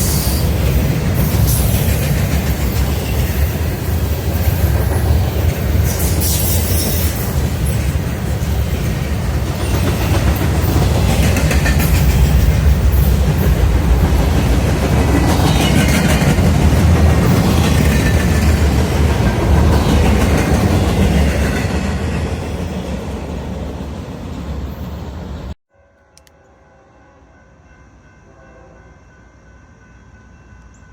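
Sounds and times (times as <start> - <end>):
freight train cars rumbling: 0.0 - 25.6.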